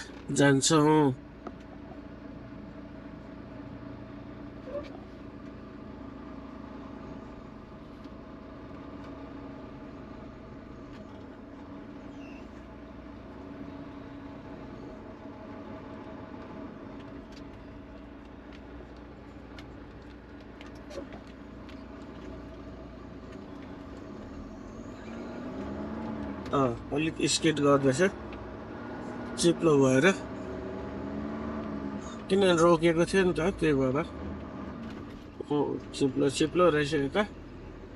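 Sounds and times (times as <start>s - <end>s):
diesel truck engine running: 0.0s - 37.9s.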